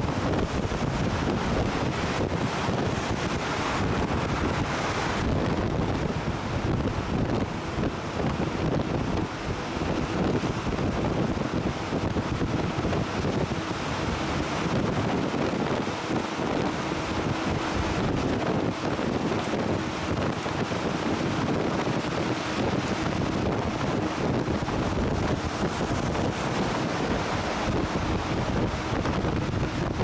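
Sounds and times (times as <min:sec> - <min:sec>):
truck driving on wet road: 0:00.0 - 0:30.0
wind noise on microphone: 0:00.0 - 0:30.0.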